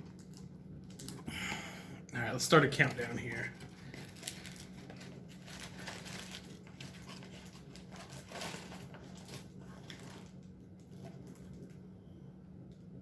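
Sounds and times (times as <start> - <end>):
card wrappers rustling and crinkling: 0.0 - 1.4, 2.2 - 11.9
steady low hum: 0.0 - 13.0.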